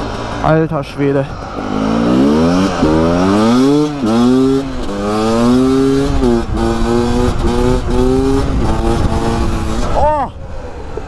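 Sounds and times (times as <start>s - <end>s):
two-stroke engine accelerating: 0.0s - 11.0s.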